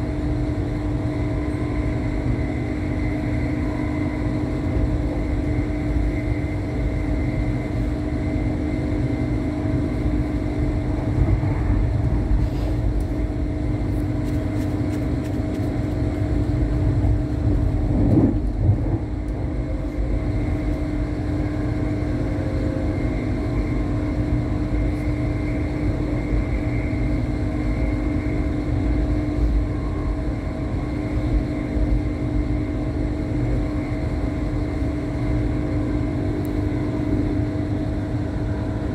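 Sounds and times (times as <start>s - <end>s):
train wheels rumbling inside carriage: 0.0s - 38.9s.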